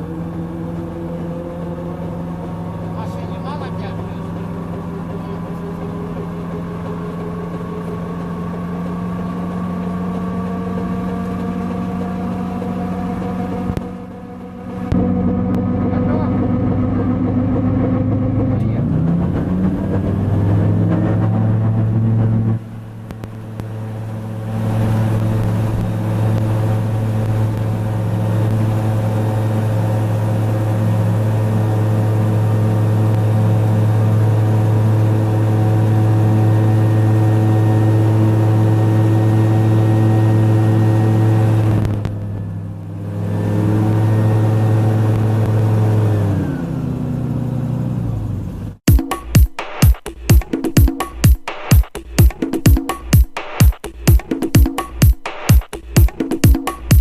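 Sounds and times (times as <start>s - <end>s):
engine and propeller droning: 0.0s - 57.0s.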